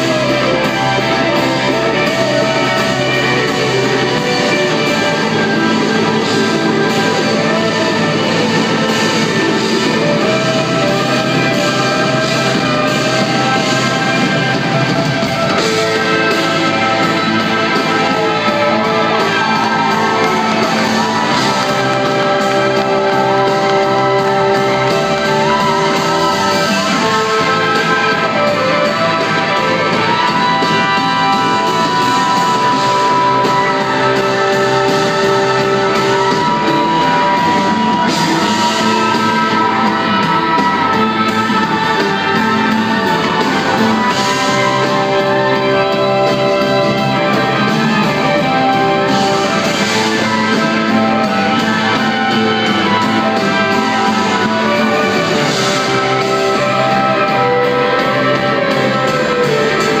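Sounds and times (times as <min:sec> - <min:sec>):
electric guitar bending notes: 0:00.0 - 1:00.0
live rock band playing: 0:00.0 - 1:00.0.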